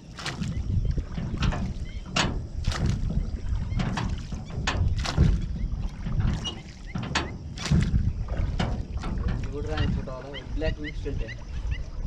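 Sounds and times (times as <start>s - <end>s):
oars splashing in water: 0.0s - 12.0s
wind rumble on microphone: 0.0s - 12.0s.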